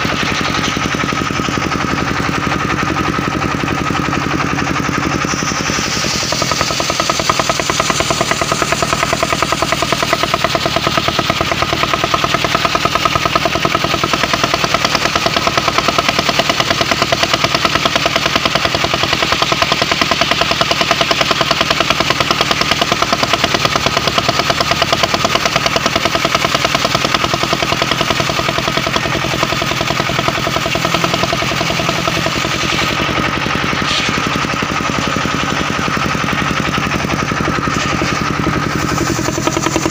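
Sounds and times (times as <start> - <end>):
saw blade cutting wood: 0.0 - 39.9
sawmill engine running: 0.0 - 39.9.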